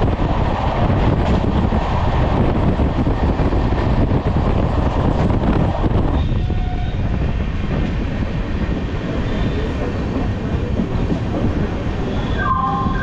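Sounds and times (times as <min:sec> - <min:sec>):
train coaches rumbling on rails: 0:00.0 - 0:13.0.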